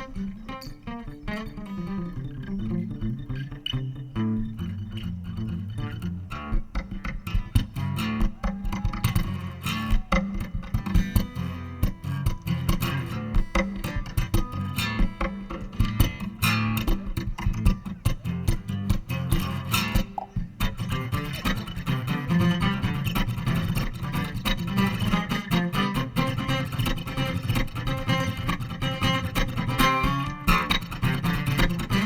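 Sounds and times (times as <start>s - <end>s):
picked guitar notes: 0.0s - 32.0s.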